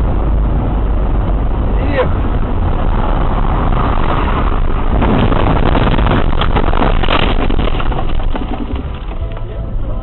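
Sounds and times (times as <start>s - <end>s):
vehicle and road noise: 0.0s - 10.0s.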